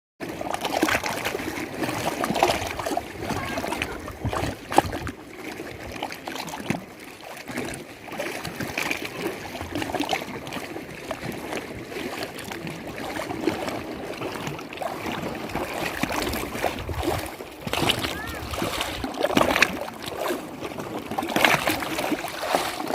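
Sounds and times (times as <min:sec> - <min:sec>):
water lapping and sloshing: 0:00.2 - 0:22.9.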